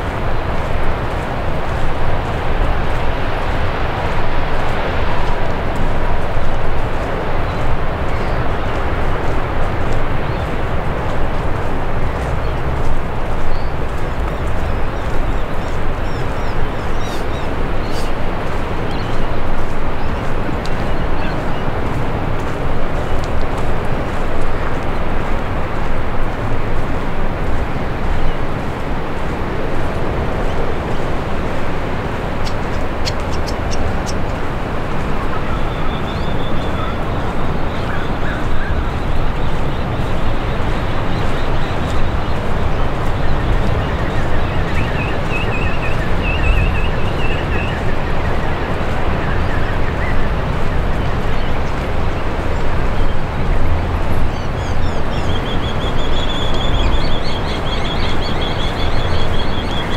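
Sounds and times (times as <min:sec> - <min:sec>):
surf rushing: 0:00.0 - 0:59.9
wind buffeting microphone: 0:00.0 - 0:59.9
small birds chirping: 0:04.6 - 0:25.8, 0:27.3 - 0:59.9.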